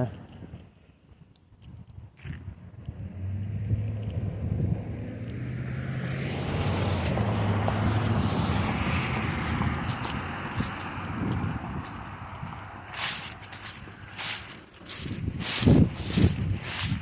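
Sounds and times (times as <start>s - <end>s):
tyre and road noise: 0.0s - 17.0s
car engine hum: 2.4s - 17.0s.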